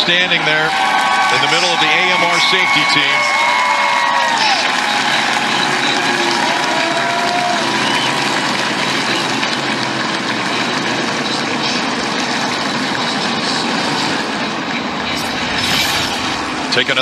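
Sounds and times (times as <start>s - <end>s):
race cars circulating: 0.0s - 17.0s.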